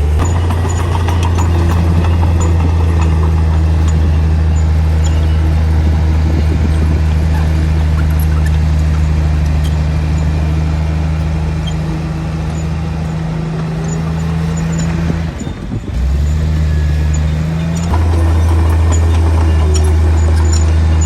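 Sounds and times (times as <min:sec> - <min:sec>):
diesel engine low hum: 0:00.0 - 0:21.0.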